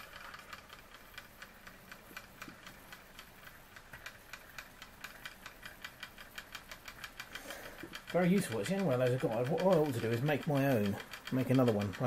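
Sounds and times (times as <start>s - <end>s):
model steam engine ticking: 0.0s - 12.0s.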